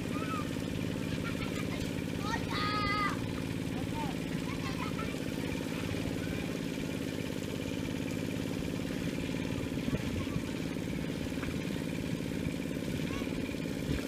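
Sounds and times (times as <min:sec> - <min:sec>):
small engine puttering: 0:00.0 - 0:14.0.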